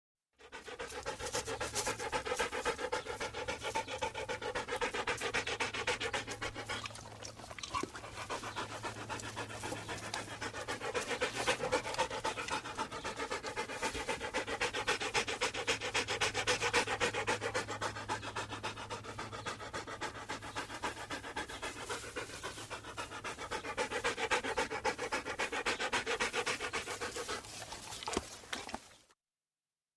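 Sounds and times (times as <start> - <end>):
dog panting: 0.4 - 29.1.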